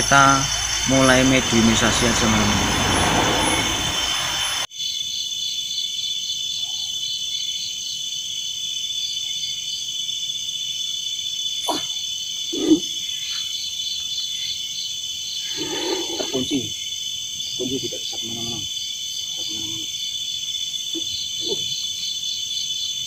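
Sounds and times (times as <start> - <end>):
crickets trilling: 0.0 - 23.0
repeating insect chirp: 0.0 - 23.0.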